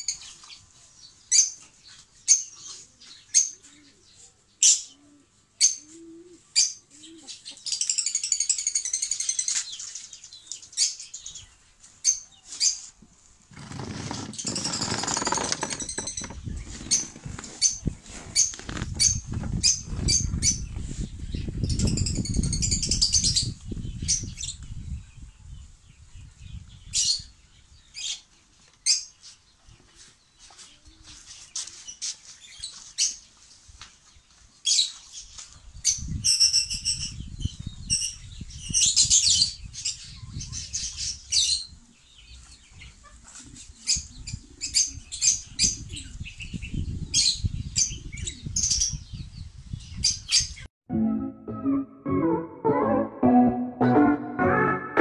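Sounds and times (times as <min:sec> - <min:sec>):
small birds chirping: 0:00.0 - 0:50.7.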